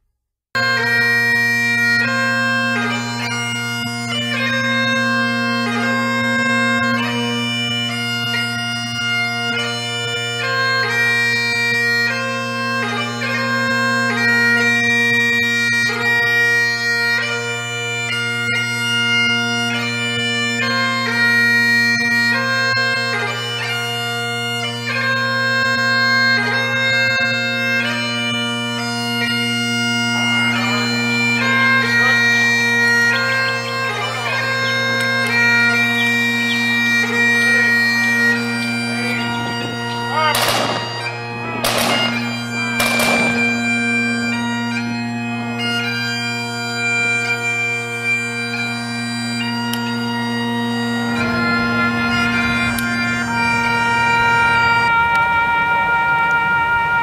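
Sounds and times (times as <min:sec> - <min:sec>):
bagpipes playing slow tune: 0:00.6 - 0:57.0.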